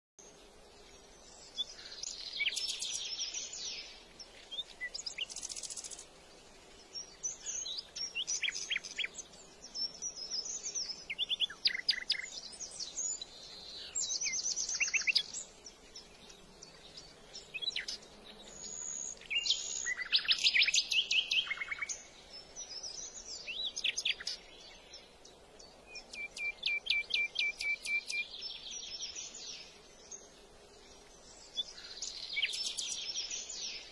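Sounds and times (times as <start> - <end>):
songbird singing: 0.2 - 33.9.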